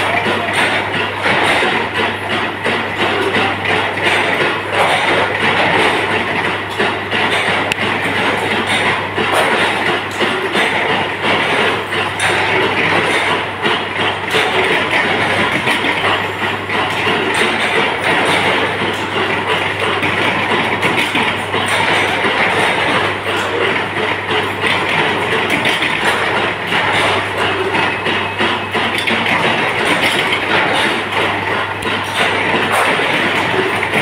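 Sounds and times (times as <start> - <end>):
induction heater mechanical noise: 0.0 - 34.0.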